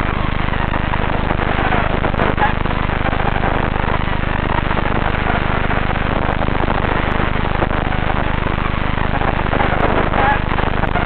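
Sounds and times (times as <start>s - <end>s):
quadcopter motors buzzing: 0.0s - 11.0s.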